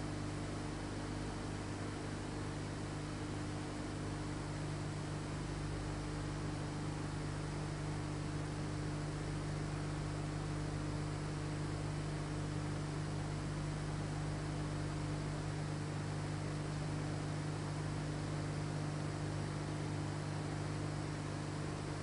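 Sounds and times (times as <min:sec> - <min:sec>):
low mains hum: 0:00.0 - 0:22.0.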